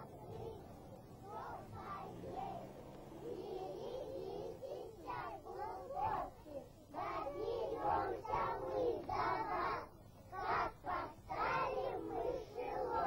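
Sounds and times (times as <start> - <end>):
children calling out together: 0.0 - 13.0.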